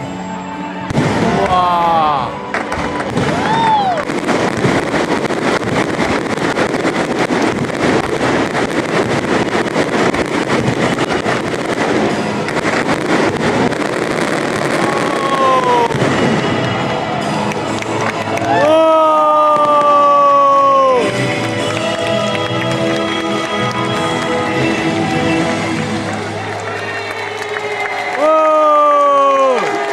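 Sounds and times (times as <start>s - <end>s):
fireworks crackling and popping: 0.9s - 29.9s.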